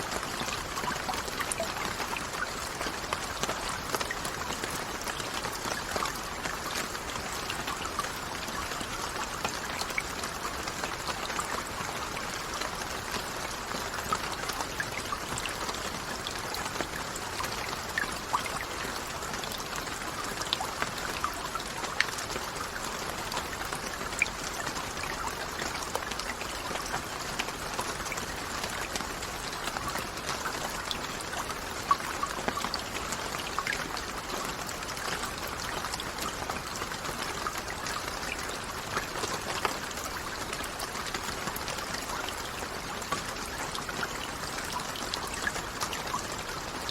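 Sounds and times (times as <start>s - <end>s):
steady rainfall: 0.0s - 46.9s.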